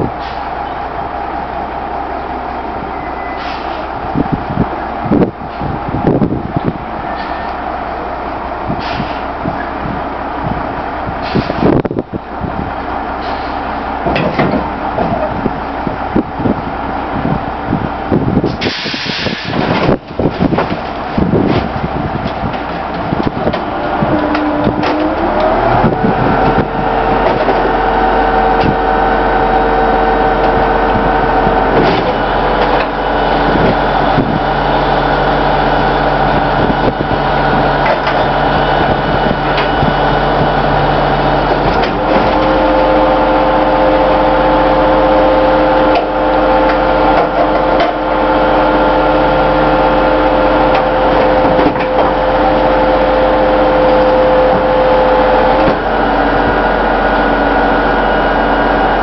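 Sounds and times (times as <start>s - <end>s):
garbage truck engine drone: 0.0s - 59.0s.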